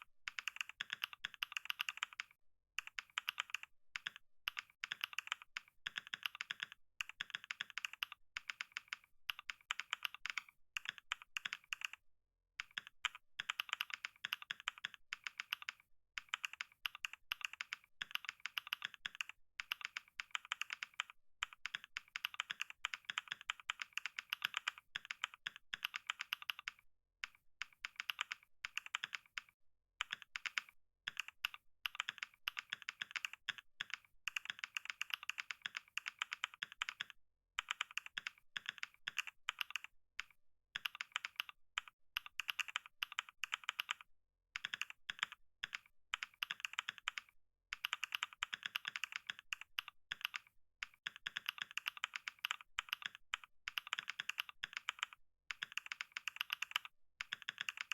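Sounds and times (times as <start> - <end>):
fast keyboard typing: 0.0 - 12.0, 12.6 - 57.9.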